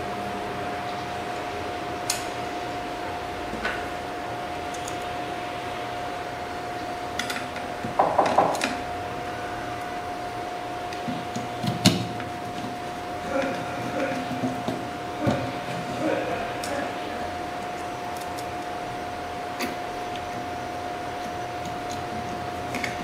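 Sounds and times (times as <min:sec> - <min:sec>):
steady whine: 0:00.0 - 0:23.0.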